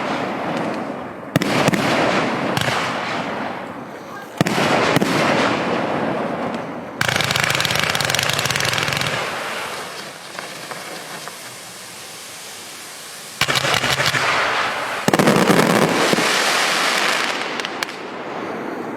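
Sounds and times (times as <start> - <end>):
scattered firework pops: 0.0 - 3.6, 6.3 - 18.1
firework volleys of bangs and crackle: 0.0 - 18.9.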